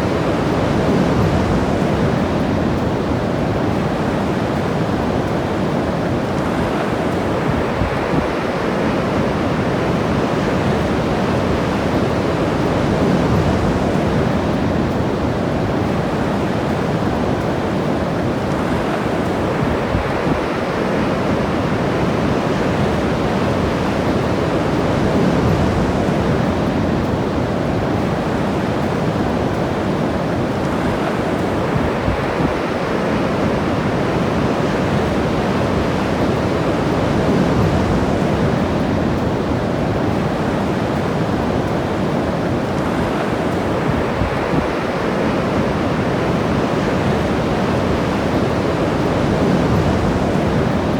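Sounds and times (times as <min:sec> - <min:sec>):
ocean surf breaking: 0:00.0 - 0:50.9.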